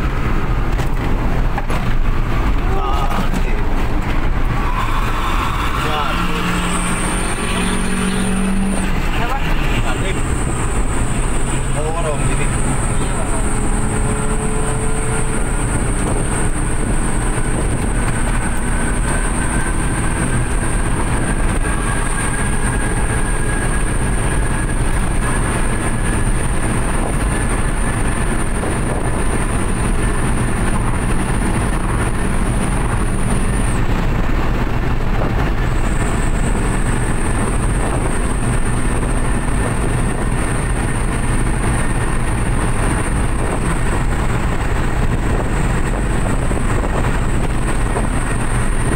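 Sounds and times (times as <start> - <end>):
engine and road noise drone: 0.0 - 48.9.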